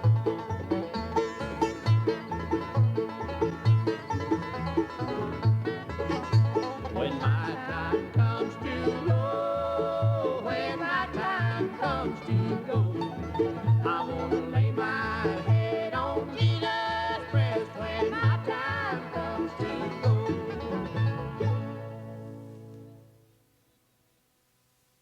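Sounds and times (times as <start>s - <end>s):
country music with plucked strings: 0.0s - 23.3s.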